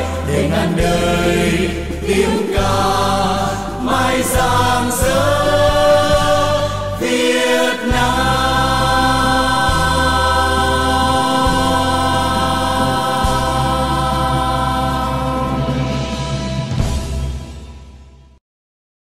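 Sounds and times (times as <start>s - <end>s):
choir singing held chords: 0.0s - 17.6s
bass line: 0.0s - 17.8s.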